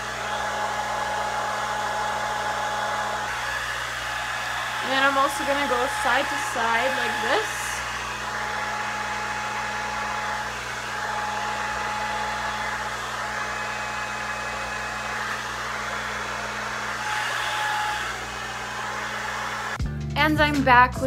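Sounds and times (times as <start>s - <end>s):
hair dryer running: 0.0s - 19.8s.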